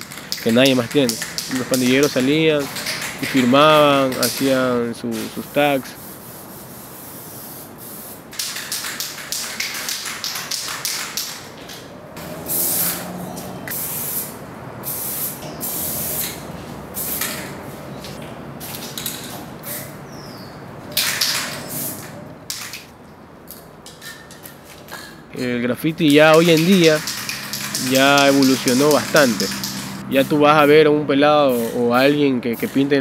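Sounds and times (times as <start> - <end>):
spray paint cans hissing: 0.0 - 20.0, 20.9 - 25.1, 26.0 - 30.7, 31.5 - 33.0.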